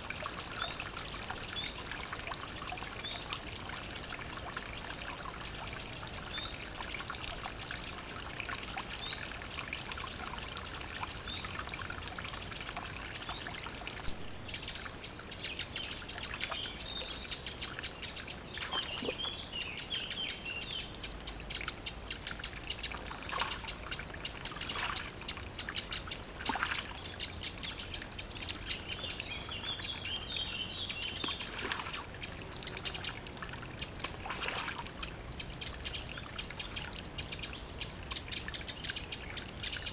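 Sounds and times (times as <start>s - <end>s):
songbirds calling: 0.0s - 39.9s
stream trickling: 0.0s - 39.9s
water splashes: 0.0s - 39.9s.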